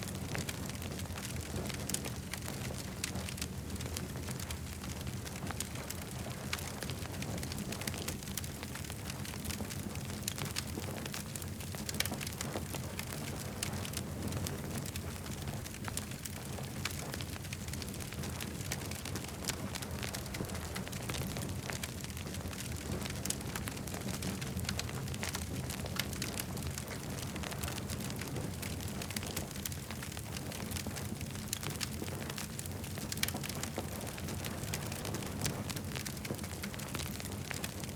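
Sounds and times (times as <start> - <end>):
low fire rumble: 0.0 - 37.9
campfire crackling and popping: 0.1 - 37.9.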